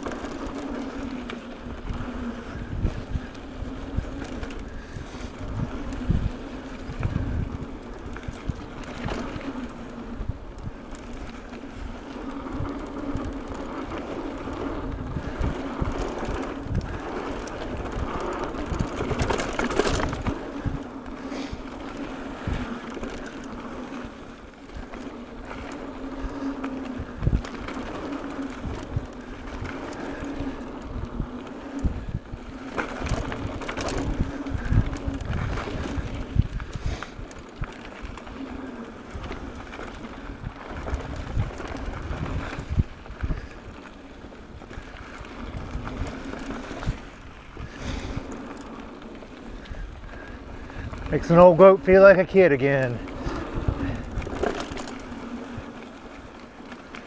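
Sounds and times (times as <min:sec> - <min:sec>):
bike frame rattling: 0:00.0 - 0:57.0
bike tyres rolling on dirt: 0:00.0 - 0:57.0
wind buffeting microphone: 0:00.0 - 0:57.0.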